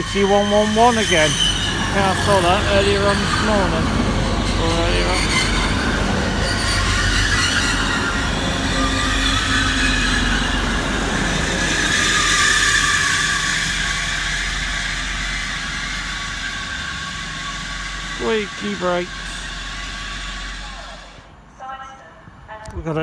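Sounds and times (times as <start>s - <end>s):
diesel engines rumbling: 0.0s - 21.8s
train brakes squealing: 0.0s - 22.5s.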